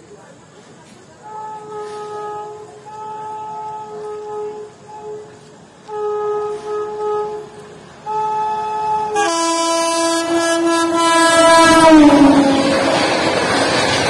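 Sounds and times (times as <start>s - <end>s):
train rushing noise: 0.4s - 14.0s
train horn blasts: 1.2s - 13.5s.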